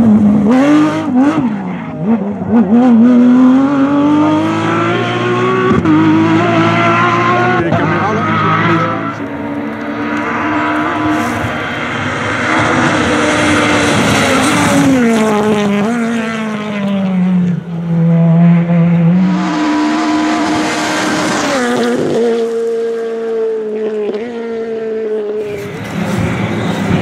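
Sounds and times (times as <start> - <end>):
rally car engine accelerating: 0.0 - 27.0.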